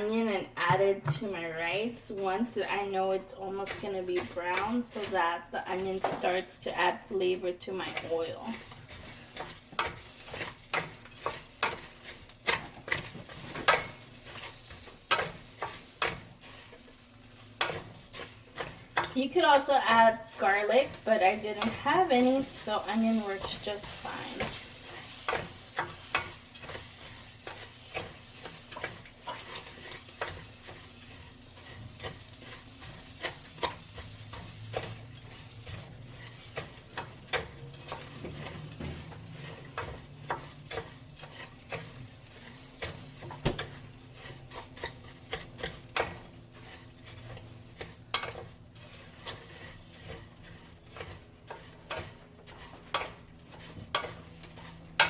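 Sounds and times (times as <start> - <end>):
rice sizzling in oil: 2.5 - 55.0
spoon scraping a pan: 2.7 - 7.0, 7.8 - 55.0.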